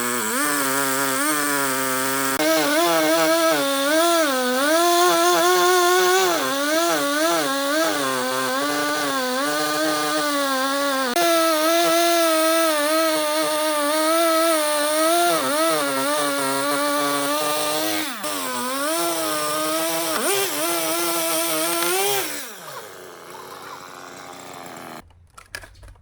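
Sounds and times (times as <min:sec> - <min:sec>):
power tool cutting wood: 0:00.0 - 0:25.0.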